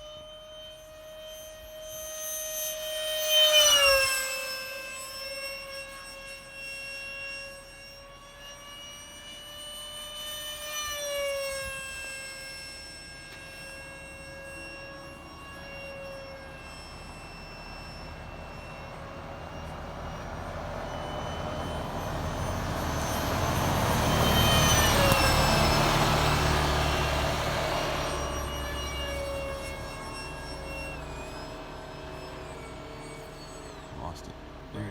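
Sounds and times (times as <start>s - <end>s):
model jet fan whining: 0.0s - 34.9s.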